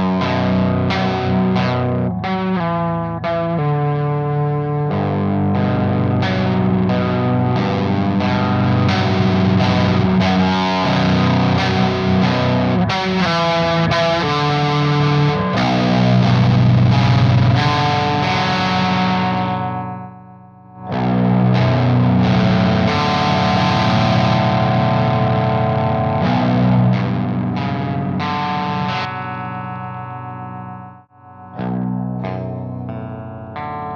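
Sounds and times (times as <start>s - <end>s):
overdriven electric guitar arpeggios: 0.0s - 33.9s.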